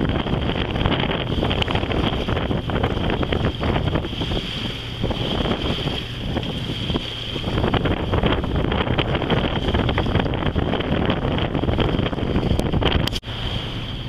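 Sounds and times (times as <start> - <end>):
water washing along hull: 0.0 - 14.0
wind buffeting microphone: 0.0 - 14.0.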